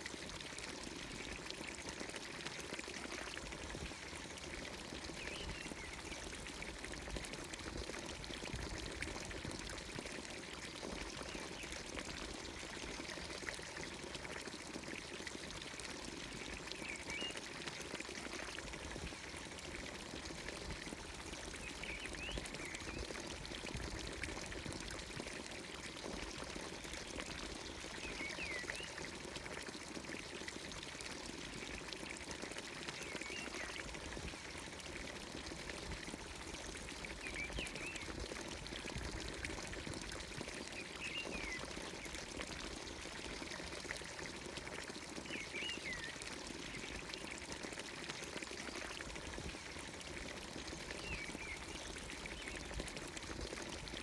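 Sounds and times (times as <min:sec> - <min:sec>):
water pouring into trough: 0:00.0 - 0:54.0.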